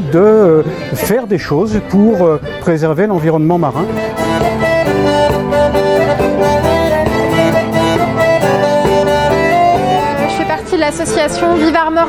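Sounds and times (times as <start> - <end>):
accordions playing folk tune: 0.0 - 12.0.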